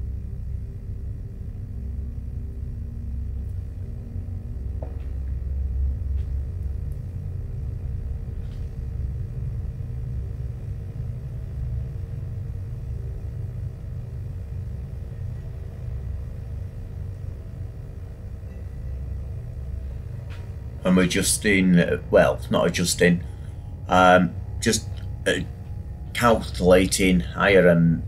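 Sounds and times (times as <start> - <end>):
faint hum: 0.0 - 28.0
low rumble: 0.0 - 28.0.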